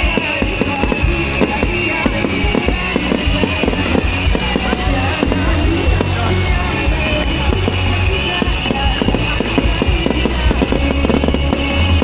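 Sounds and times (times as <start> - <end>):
fireworks crackling and popping: 0.0 - 12.0
loud music playing: 0.0 - 12.0.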